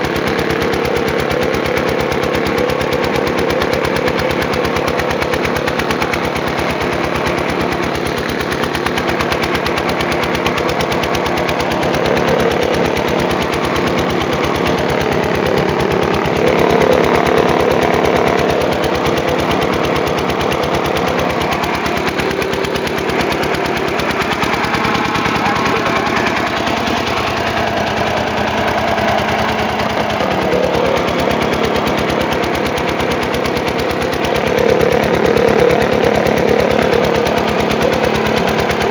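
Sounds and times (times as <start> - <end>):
generator engine knocking steadily: 0.0 - 38.9.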